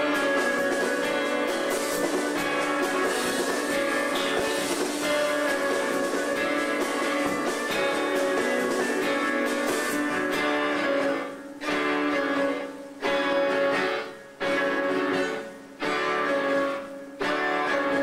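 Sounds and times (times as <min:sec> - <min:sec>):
plucked guitar: 0:00.0 - 0:18.0
violin and viola bowing: 0:00.0 - 0:18.0.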